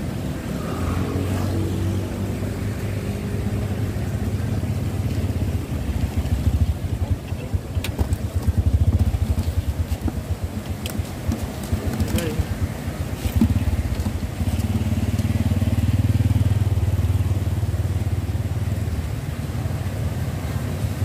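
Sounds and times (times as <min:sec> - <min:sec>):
motorbike engine rumbling: 0:02.2 - 0:19.2.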